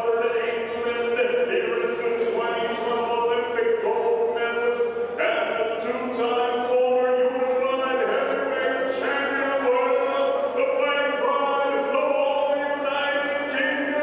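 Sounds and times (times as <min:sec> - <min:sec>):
announcer's drawn-out sing-song voice: 0:00.0 - 0:14.0.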